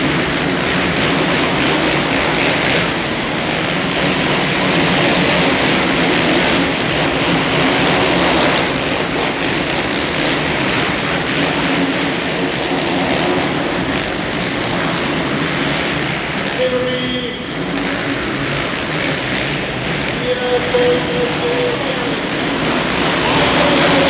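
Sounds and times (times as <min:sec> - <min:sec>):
motocross bikes racing: 0:00.0 - 0:24.0.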